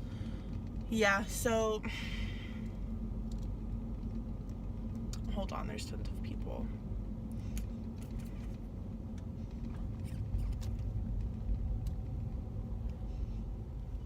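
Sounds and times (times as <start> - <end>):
car engine rumble inside cabin: 0.0 - 14.0
faint steady hum: 0.0 - 14.0.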